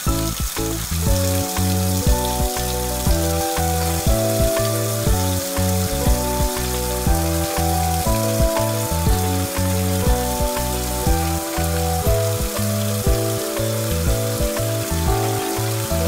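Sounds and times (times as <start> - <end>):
bouncy background music: 0.0 - 16.0
steady hiss: 0.0 - 16.0.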